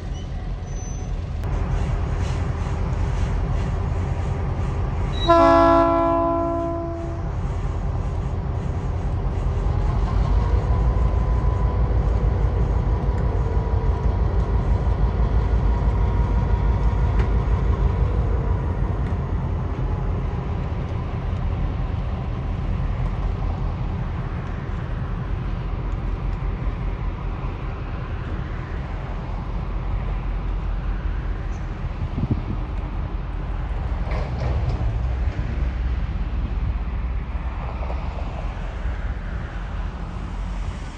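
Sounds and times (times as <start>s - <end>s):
diesel locomotives rumbling: 0.0s - 40.9s.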